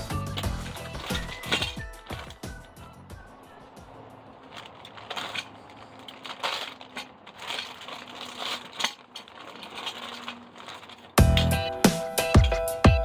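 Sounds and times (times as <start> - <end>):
rustling of objects handled: 0.0 - 12.8
objects clicking and clinking: 0.0 - 13.0.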